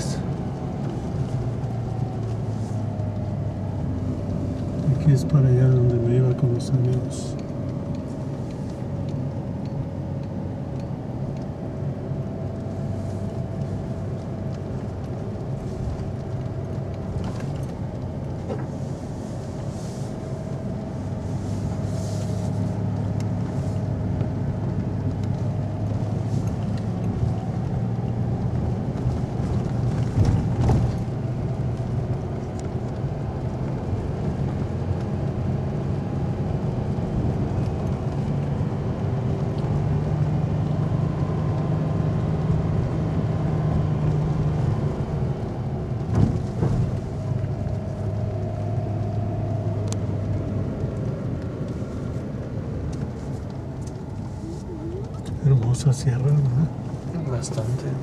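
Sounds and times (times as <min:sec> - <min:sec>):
vehicle engine and road hum: 0:00.0 - 0:58.0.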